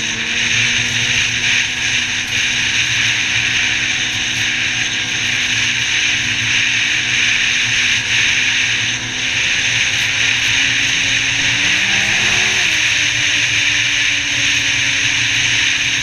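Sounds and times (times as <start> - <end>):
snowmobile engine running: 0.0 - 16.0
snowmobile track noise: 0.0 - 16.0.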